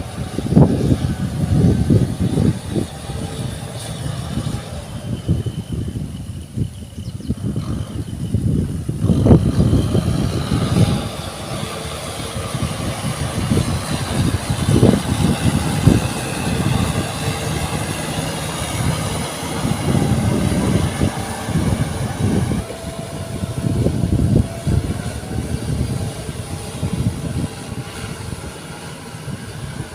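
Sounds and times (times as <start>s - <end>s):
tractor engine rumbling: 0.0s - 29.9s.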